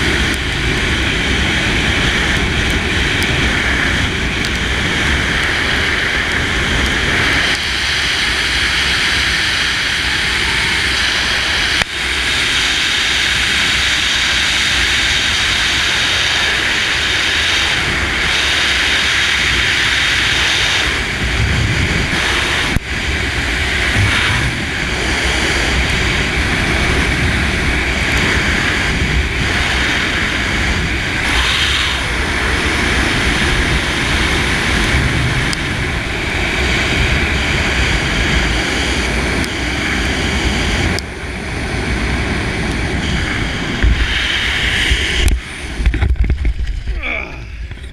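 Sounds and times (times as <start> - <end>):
low buffeting rumble: 0.0 - 47.9
wind rushing over camera: 0.0 - 47.9.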